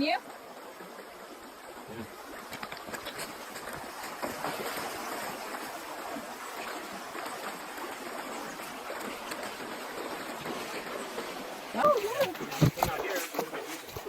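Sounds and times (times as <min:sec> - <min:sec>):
creek water rushing: 0:00.0 - 0:14.0
light splashes wading: 0:01.7 - 0:14.0.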